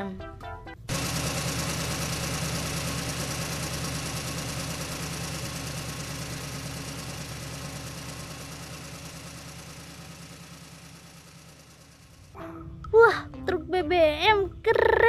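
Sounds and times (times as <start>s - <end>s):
truck diesel engine running: 0.7s - 15.0s.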